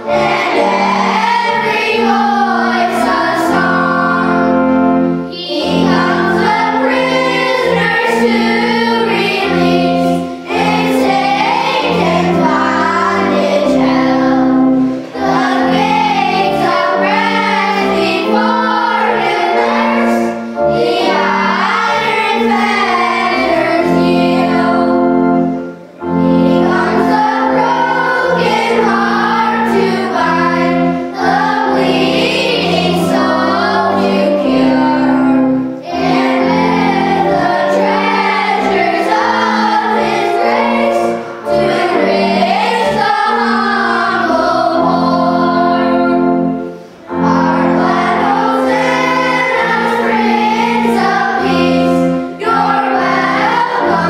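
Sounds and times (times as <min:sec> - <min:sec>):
choir singing a hymn: 0:00.0 - 0:54.0
instrumental accompaniment: 0:00.0 - 0:54.0.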